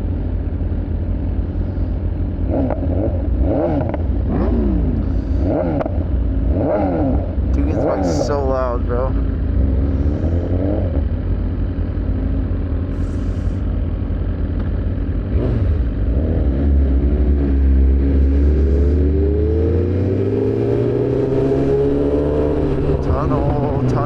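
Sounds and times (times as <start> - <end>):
motorcycle engines running: 0.0 - 24.0
motorcycle accelerating: 0.2 - 24.0.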